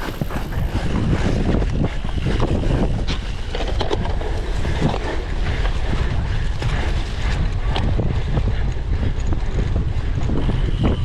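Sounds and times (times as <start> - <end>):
bike clicks and rattles: 0.0 - 11.0
wind rushing over microphone: 0.0 - 11.0.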